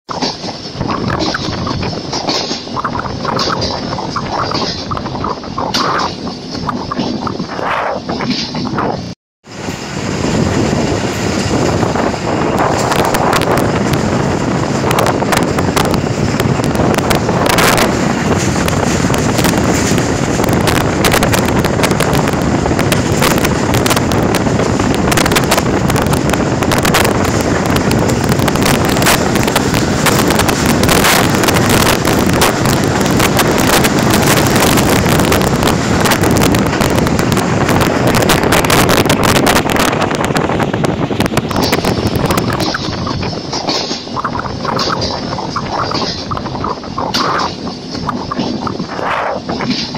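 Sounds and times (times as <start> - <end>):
freight train passing: 0.1 - 49.9
passenger train running: 0.1 - 49.9
wind buffeting microphone: 0.1 - 49.9.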